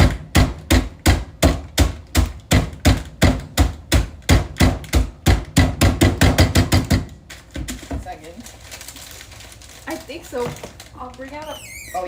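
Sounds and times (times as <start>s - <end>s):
chip bag being pounded: 0.0s - 11.5s.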